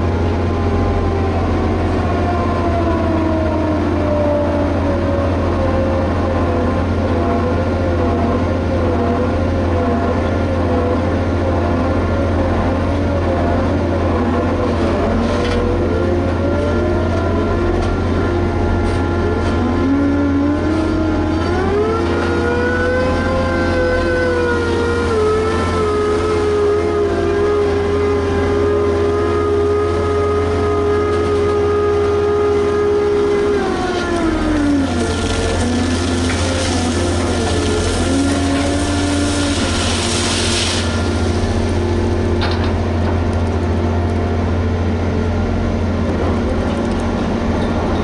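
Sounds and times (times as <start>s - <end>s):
diesel engine under load: 0.0s - 48.0s
steady low hum: 0.0s - 48.0s.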